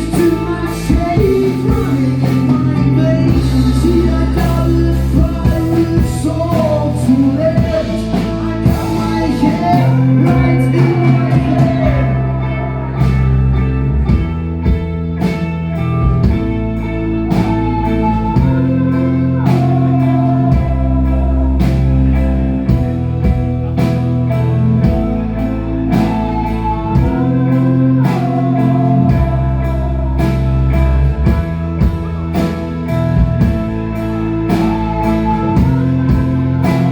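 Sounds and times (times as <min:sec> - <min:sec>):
drum kit beat: 0:00.0 - 0:12.4, 0:13.0 - 0:36.9
bass guitar: 0:00.0 - 0:36.9
electric guitar: 0:00.0 - 0:36.9
person singing: 0:00.0 - 0:36.9.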